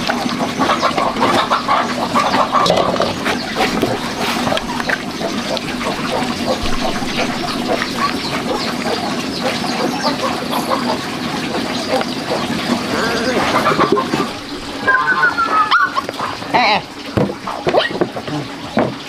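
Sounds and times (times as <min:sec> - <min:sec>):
farm animals calling: 0:00.0 - 0:18.6.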